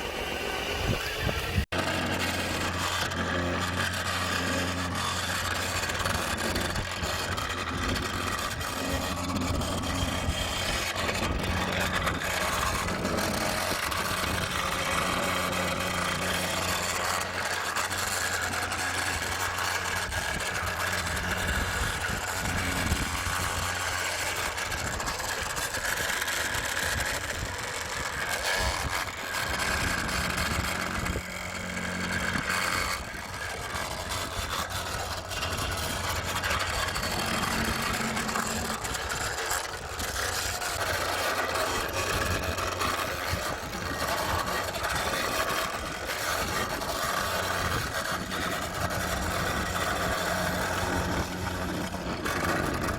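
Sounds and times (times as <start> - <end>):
engine-like hum: 0.0 - 52.9
high whirring of small motors: 0.0 - 52.9.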